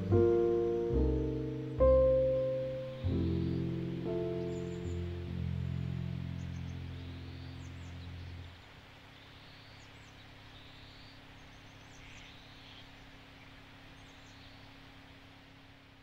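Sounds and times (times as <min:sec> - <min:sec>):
distant birds chirping: 0:00.0 - 0:16.0
low hum: 0:00.0 - 0:16.0
soft hiss: 0:00.0 - 0:16.0.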